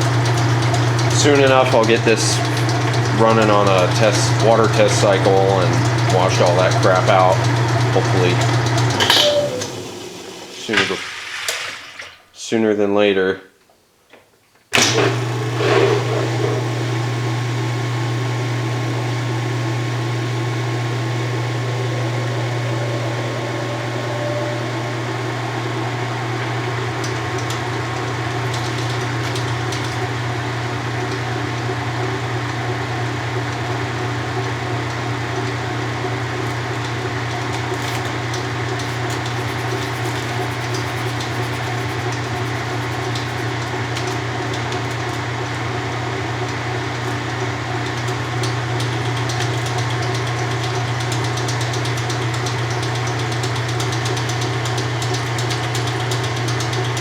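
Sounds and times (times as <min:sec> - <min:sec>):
washing machine motor hum: 0:00.0 - 0:12.3, 0:14.8 - 0:57.0.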